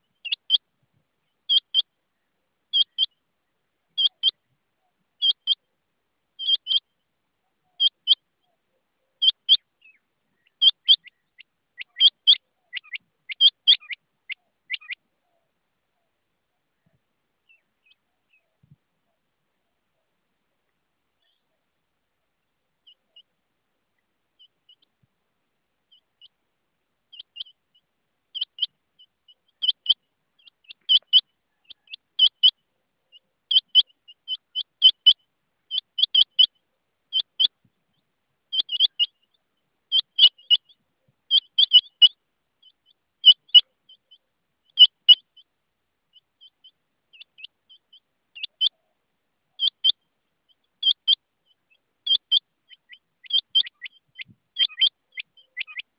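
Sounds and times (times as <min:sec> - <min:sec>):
quail calling: 0:00.0 - 0:00.6, 0:01.4 - 0:03.2, 0:03.9 - 0:05.7, 0:06.4 - 0:19.2, 0:21.2 - 0:21.6, 0:24.4 - 0:25.0, 0:27.1 - 0:37.6, 0:38.5 - 0:45.5, 0:46.1 - 0:55.9.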